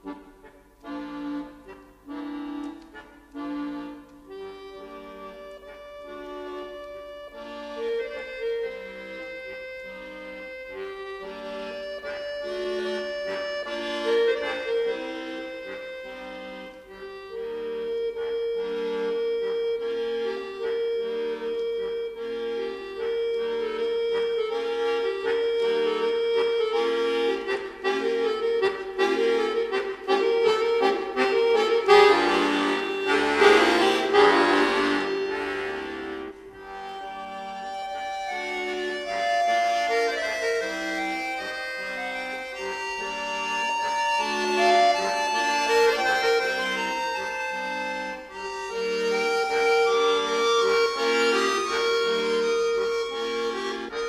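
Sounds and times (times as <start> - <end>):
solo accordion playing: 0.0 - 54.0.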